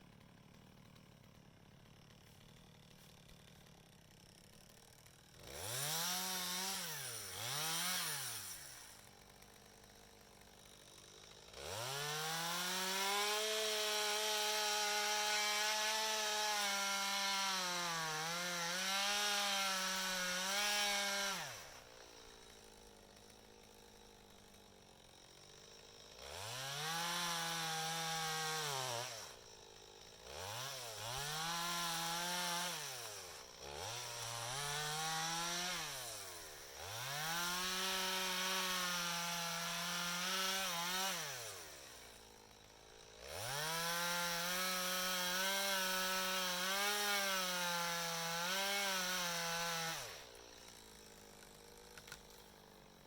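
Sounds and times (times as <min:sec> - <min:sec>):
chainsaw revving and cutting wood: 0:00.0 - 0:53.0.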